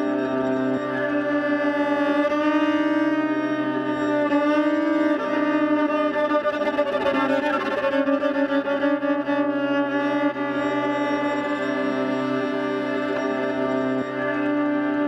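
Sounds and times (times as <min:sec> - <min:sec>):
bowed viola: 0:00.0 - 0:15.0.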